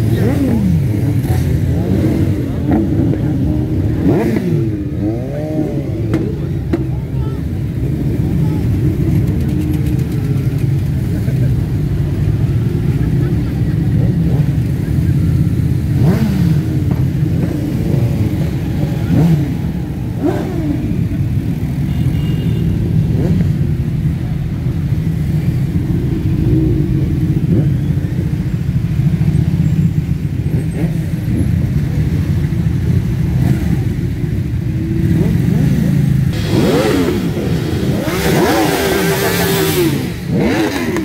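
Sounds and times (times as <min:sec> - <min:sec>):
motorcycle engines rumbling: 0:00.0 - 0:41.0
motorcycle revving: 0:00.0 - 0:41.0.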